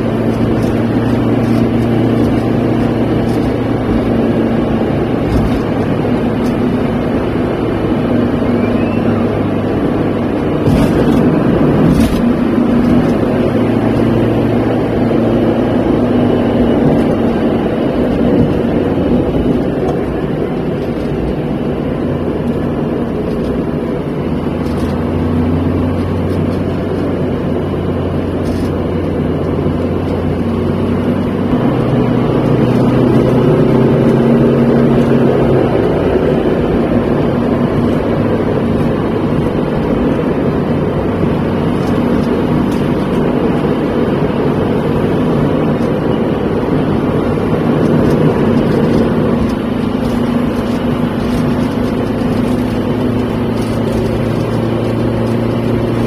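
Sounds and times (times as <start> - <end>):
car engine drone in cabin: 0.0 - 56.0.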